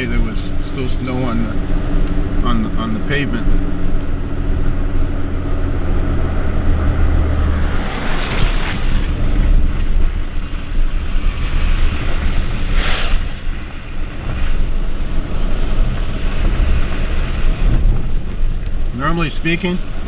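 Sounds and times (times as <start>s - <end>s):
truck engine and tyre rumble: 0.0s - 20.0s.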